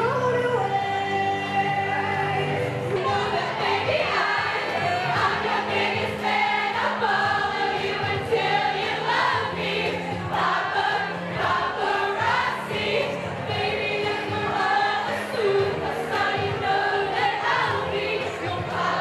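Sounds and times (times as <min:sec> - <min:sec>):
crowd singing along: 0:00.0 - 0:19.0
backing track: 0:00.4 - 0:19.0.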